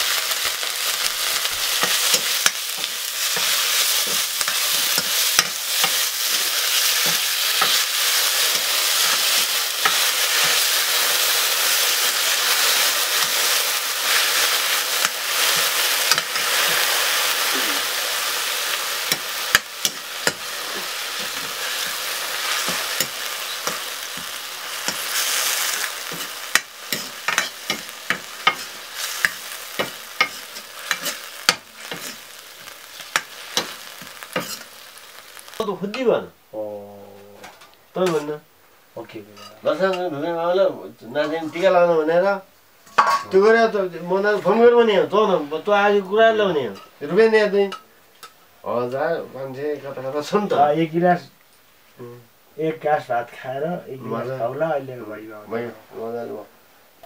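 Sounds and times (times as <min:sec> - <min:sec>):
greens sizzling in a wok: 0:00.0 - 0:57.0.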